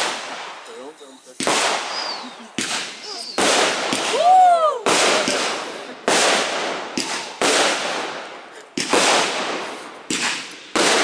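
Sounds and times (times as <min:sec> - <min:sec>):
fireworks bursting with bangs: 0:00.0 - 0:11.0
fireworks hissing tail: 0:00.0 - 0:11.0.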